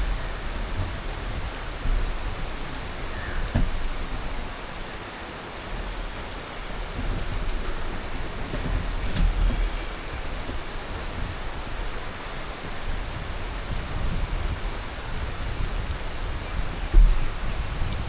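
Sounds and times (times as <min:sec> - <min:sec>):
heavy rain hiss: 0:00.0 - 0:18.0.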